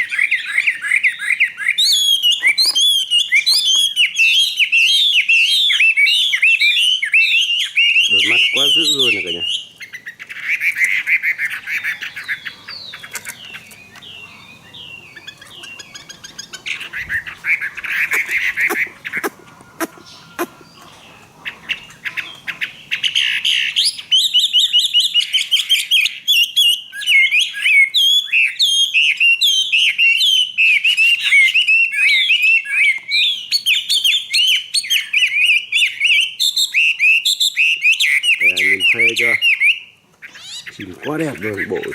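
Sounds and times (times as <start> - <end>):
bird harsh rasping calls: 0.0 - 41.9
bird whistled song: 0.0 - 41.9.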